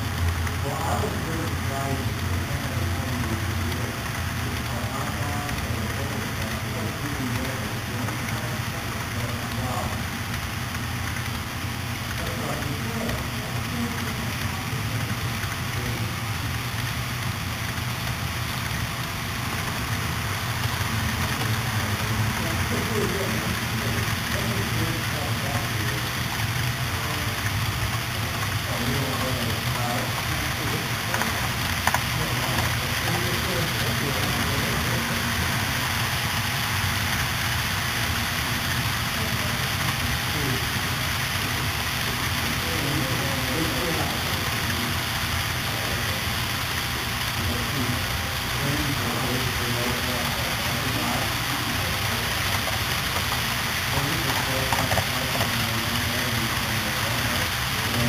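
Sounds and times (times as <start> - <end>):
model train wheels rushing on track: 0.0 - 58.0.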